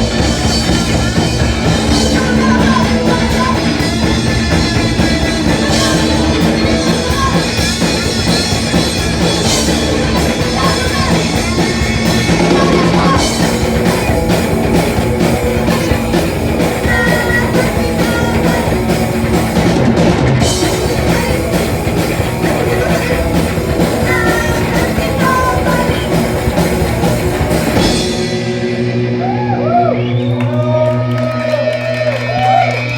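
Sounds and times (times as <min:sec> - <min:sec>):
electric guitar: 0:00.0 - 0:32.9
punk rock band playing: 0:00.0 - 0:32.9.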